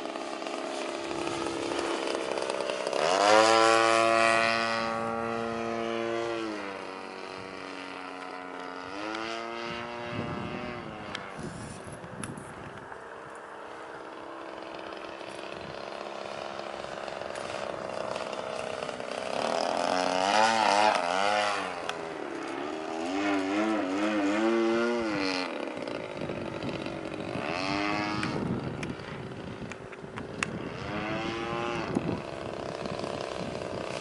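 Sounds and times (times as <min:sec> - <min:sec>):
model plane engine buzzing: 0:00.0 - 0:34.0.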